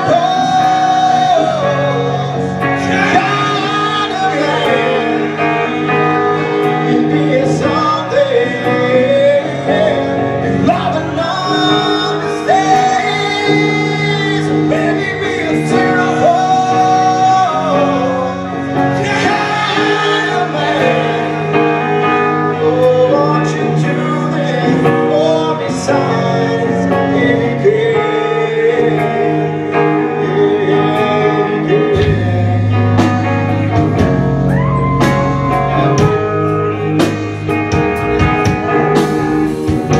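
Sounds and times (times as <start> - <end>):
man and woman singing: 0.0 - 33.1
electric guitar: 0.0 - 39.9
live rock band: 0.0 - 39.9.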